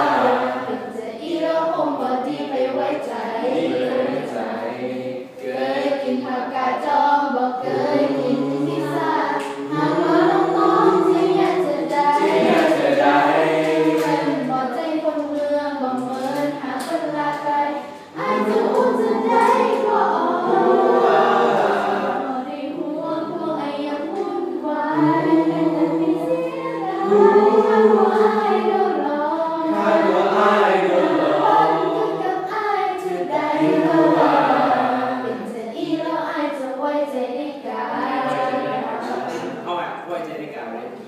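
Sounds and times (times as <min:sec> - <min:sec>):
choir singing in parts: 0:00.0 - 0:39.8.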